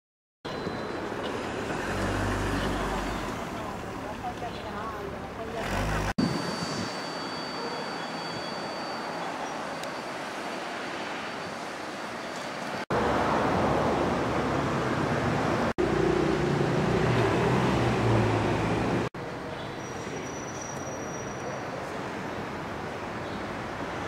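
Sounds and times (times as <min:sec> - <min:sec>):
passing vehicles: 0:00.5 - 0:24.0.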